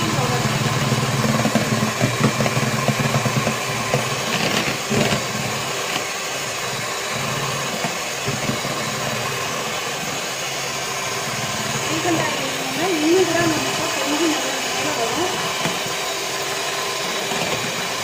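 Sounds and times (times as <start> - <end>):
electric hand mixer running: 0.0 - 18.0.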